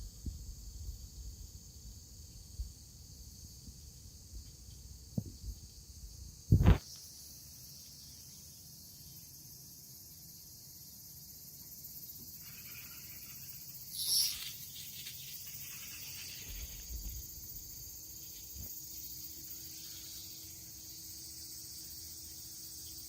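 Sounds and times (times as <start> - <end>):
cicadas droning: 0.0 - 23.0.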